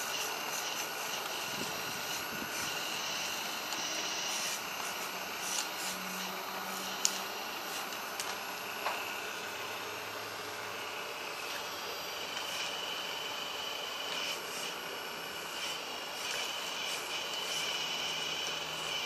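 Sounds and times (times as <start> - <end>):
hydraulic pump whining hiss: 0.0 - 19.0.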